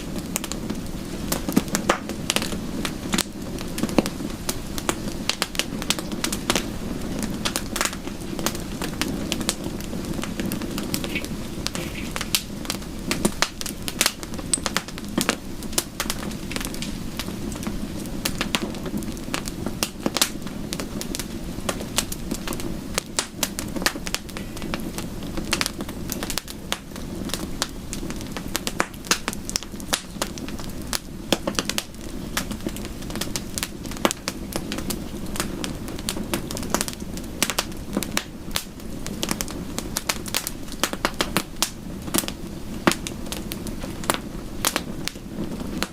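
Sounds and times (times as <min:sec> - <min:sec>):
rush of burning wood: 0:00.0 - 0:45.9
bonfire pops and snaps: 0:00.1 - 0:45.9.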